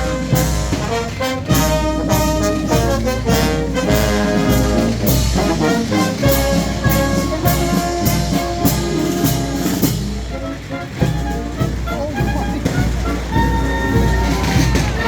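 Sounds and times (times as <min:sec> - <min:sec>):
drum strokes: 0:00.0 - 0:15.0
trumpets and trombones playing: 0:00.0 - 0:15.0.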